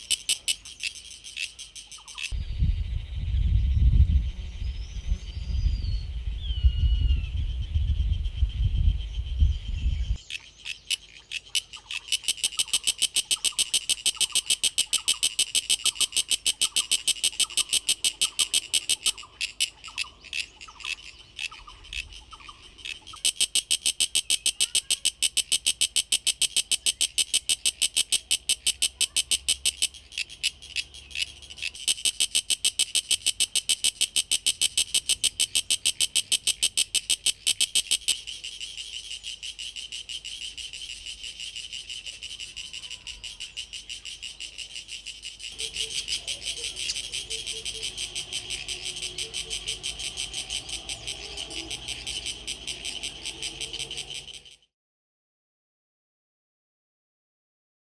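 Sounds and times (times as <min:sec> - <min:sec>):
cicada clicking call: 0:00.0 - 0:03.7, 0:06.4 - 0:54.7.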